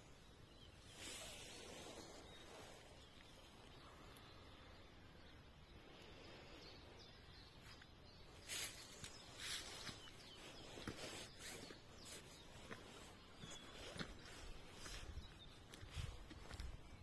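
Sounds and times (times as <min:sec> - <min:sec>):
faint countryside ambience: 0:00.0 - 0:17.0.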